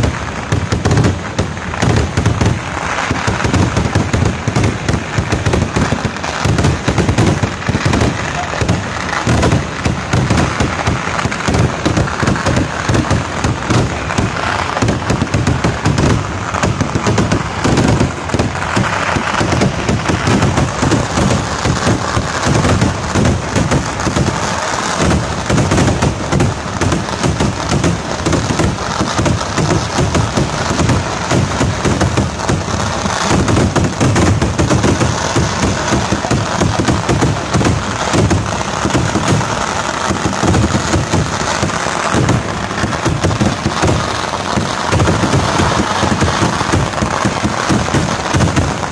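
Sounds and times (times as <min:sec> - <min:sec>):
firecracker blasts barrage: 0:00.0 - 0:48.9.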